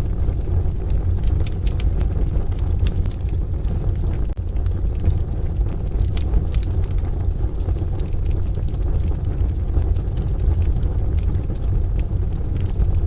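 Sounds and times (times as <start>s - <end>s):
rain rumbling: 0.0s - 13.0s
wood fire crackling: 0.0s - 13.0s.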